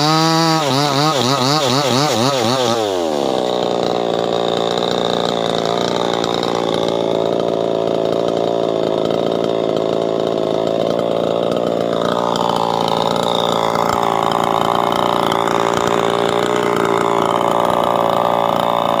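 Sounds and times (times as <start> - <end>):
chainsaw engine idling: 0.0 - 19.0.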